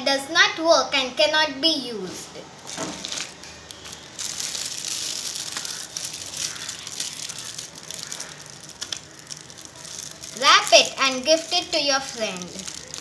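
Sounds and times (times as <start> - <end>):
gift-wrap film crinkling: 2.6 - 13.0.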